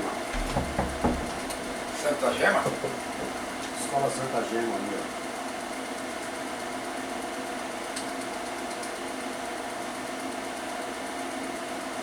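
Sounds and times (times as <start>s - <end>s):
steady mechanical whirring hum: 0.0s - 12.0s.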